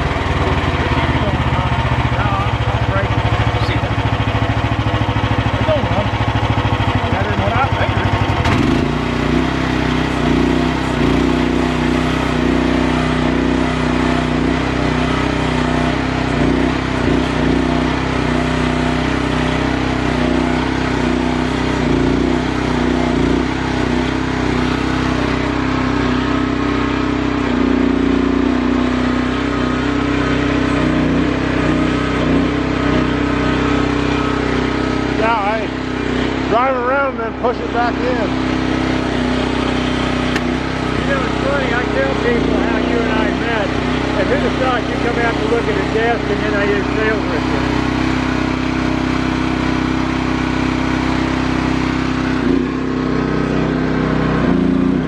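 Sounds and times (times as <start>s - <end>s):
excavator engine droning: 0.0s - 55.0s.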